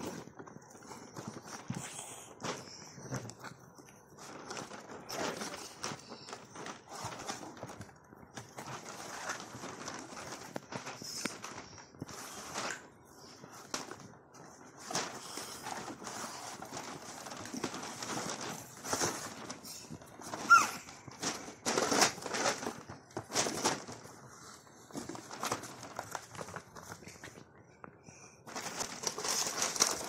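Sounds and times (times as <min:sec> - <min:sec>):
rustling cardboard box and packaging: 0:00.0 - 0:30.0.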